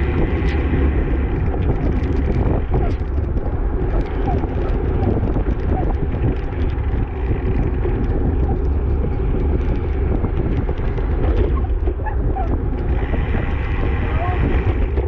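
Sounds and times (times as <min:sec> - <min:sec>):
bike ticks and rattles: 0:00.0 - 0:15.0
wind rumbling on microphone: 0:00.0 - 0:15.0.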